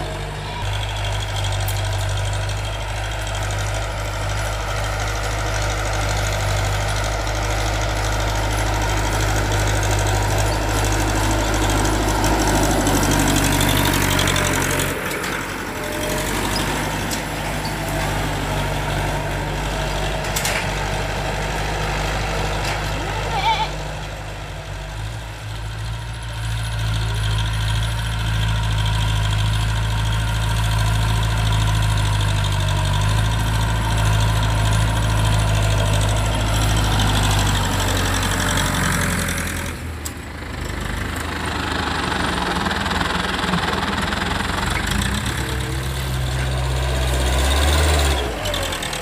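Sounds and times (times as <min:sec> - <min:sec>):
tractor diesel engine droning: 0:00.0 - 0:49.0.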